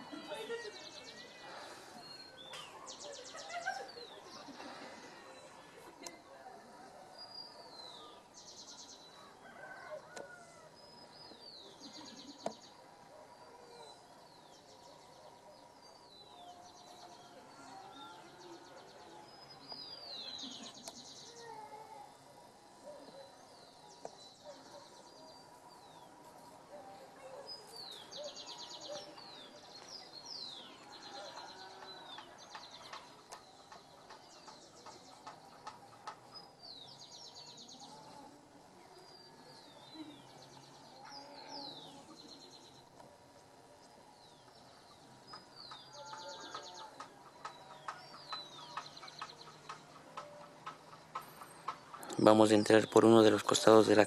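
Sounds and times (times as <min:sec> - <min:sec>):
faint background noise: 0:00.0 - 0:54.0.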